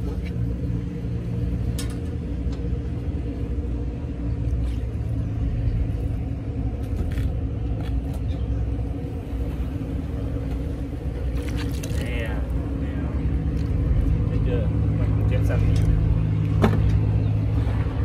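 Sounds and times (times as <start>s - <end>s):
constant hum: 0.0s - 18.0s
low mechanical rumble: 0.0s - 18.0s.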